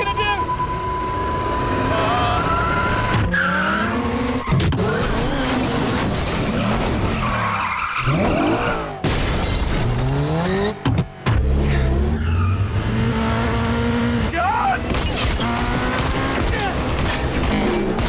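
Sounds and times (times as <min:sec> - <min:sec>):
engines revving: 0:00.0 - 0:18.0
tyres skidding: 0:00.0 - 0:18.0.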